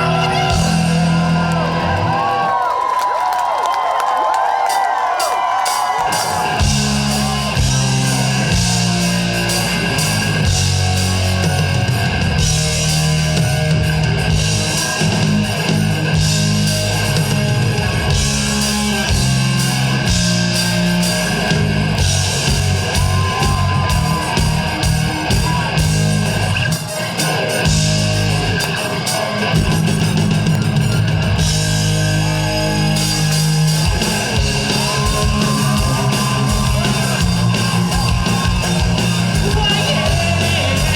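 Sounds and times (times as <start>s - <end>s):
bass guitar: 0.0s - 2.5s, 6.1s - 40.9s
drums: 0.0s - 40.9s
electric guitar: 6.1s - 40.9s.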